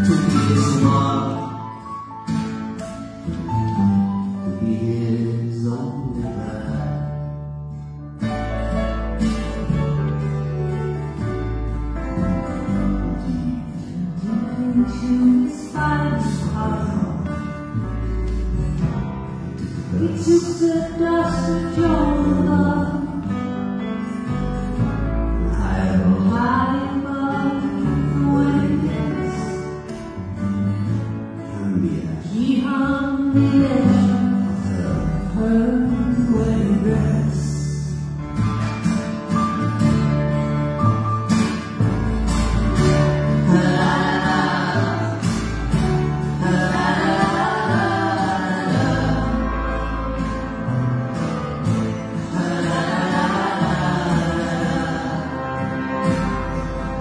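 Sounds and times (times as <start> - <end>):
acoustic guitars: 0.0 - 57.0
cello: 0.0 - 57.0
grand piano: 0.0 - 57.0.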